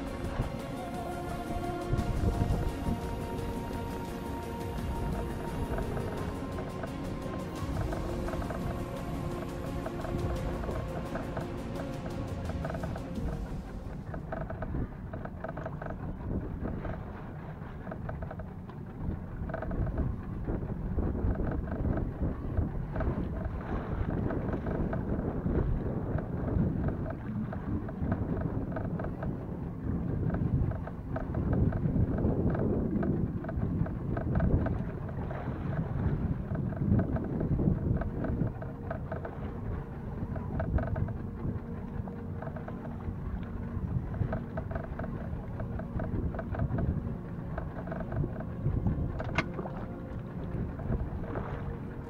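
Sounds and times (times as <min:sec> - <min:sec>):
boat engine rumble: 0:00.0 - 0:52.0
wind buffeting microphone: 0:00.0 - 0:52.0.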